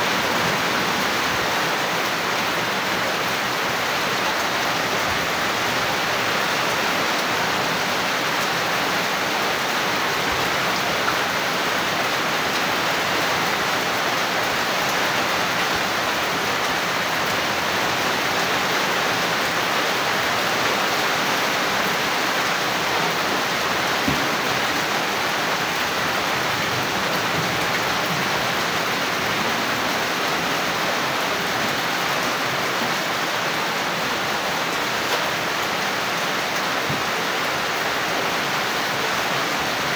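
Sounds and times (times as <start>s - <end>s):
heavy rain falling: 0.0s - 39.9s
water splashing on flooded ground: 0.0s - 39.9s.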